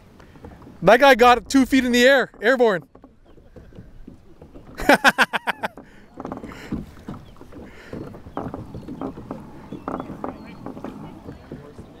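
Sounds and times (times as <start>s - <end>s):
water slapping against kayak hull: 0.0s - 12.0s
small knocks: 0.1s - 12.0s.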